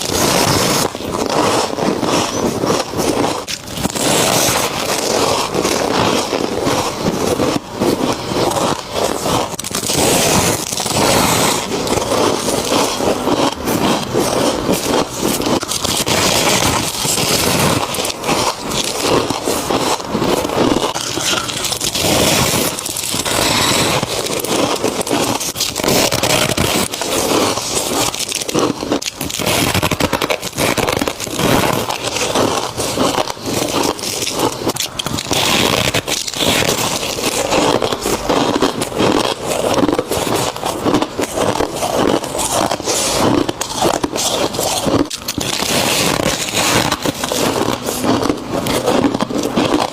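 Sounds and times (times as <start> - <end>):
freezer frost crunching: 0.0 - 49.9.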